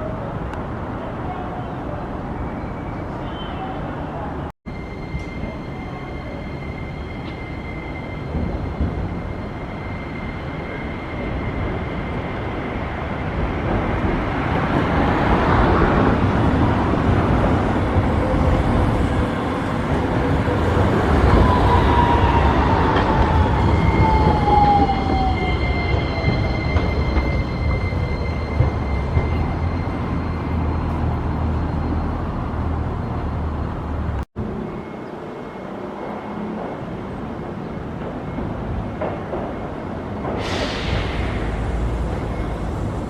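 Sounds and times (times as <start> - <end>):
streetcar rumble: 0.0 - 43.0.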